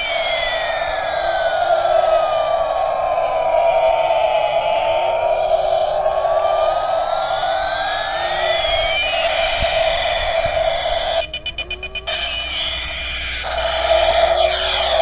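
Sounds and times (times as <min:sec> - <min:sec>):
rapid pulsing beep: 0:00.0 - 0:15.0
siren-like electronic tones: 0:00.0 - 0:15.0
warbling electronic tone: 0:00.0 - 0:15.0.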